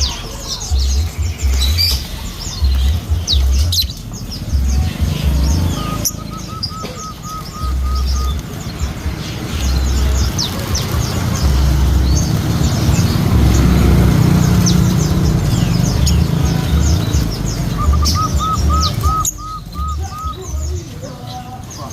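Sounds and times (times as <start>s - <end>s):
lovebird chattering: 0.0s - 21.9s.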